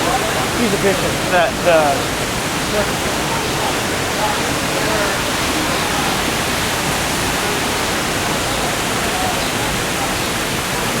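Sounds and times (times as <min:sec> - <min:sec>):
falling water rushing: 0:00.0 - 0:11.0.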